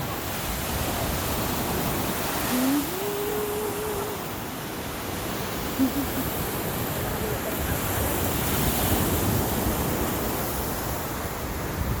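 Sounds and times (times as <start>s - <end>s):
waves washing on shore: 0.0s - 12.0s
wind rumbling on microphone: 0.0s - 12.0s.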